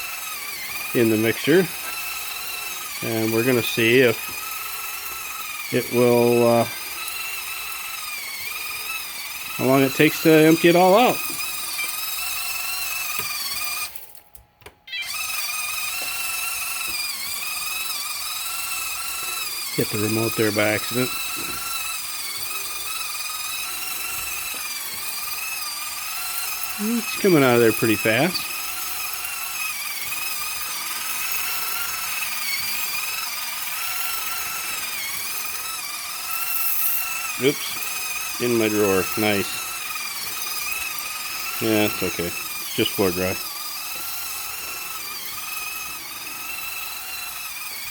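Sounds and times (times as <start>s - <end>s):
electric motor whining: 0.0s - 14.3s, 14.9s - 47.9s.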